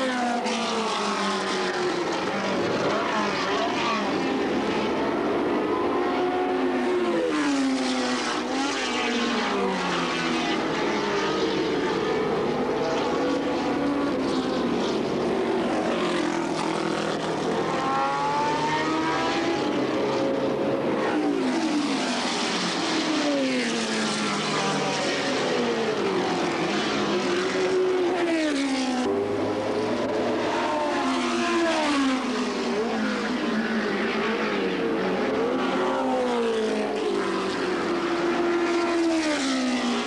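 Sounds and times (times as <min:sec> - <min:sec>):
racing car engines revving: 0:00.0 - 0:40.0.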